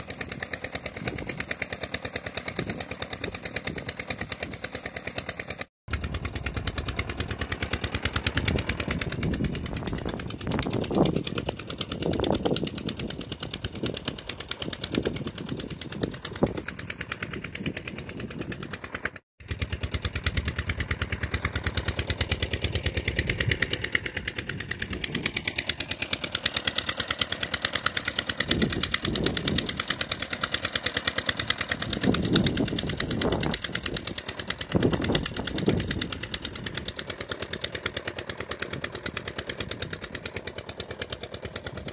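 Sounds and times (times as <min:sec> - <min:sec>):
diesel water pump engine knocking: 0:00.0 - 0:41.9.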